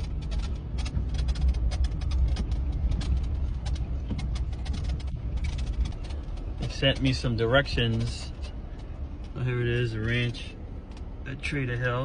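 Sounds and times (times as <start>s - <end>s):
small clicks and rattles: 0.0s - 11.9s
vehicle engine and road rumble: 0.0s - 12.0s.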